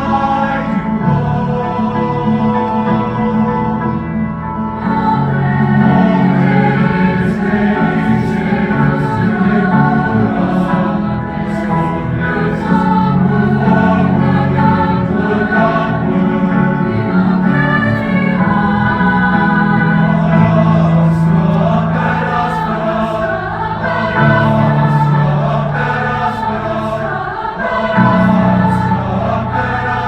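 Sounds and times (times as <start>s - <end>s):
choir singing in parts: 0.0s - 30.0s.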